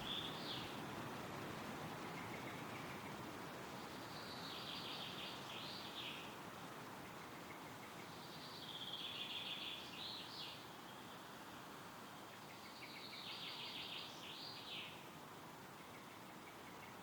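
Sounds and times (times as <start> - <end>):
wind rustling through trees: 0.0 - 17.0.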